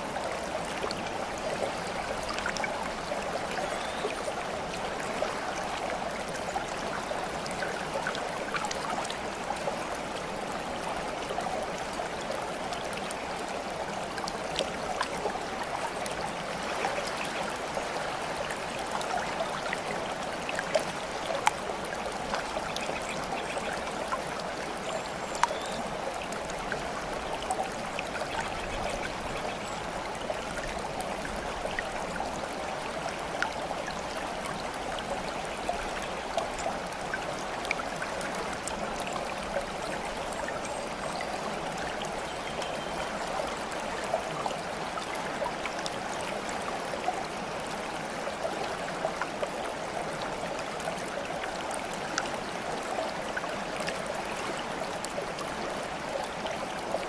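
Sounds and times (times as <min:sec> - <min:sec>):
water babbling and trickling: 0:00.0 - 0:57.0
water splashes and drips: 0:00.0 - 0:57.0.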